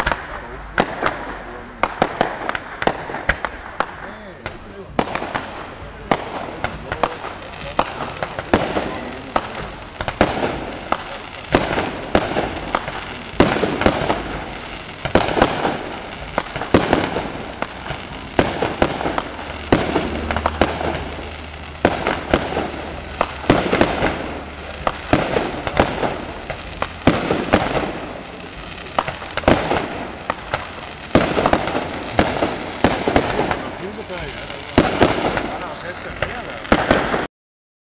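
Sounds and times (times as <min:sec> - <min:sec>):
fireworks bursting with bangs: 0:00.0 - 0:37.3
fireworks crackling: 0:00.0 - 0:37.3.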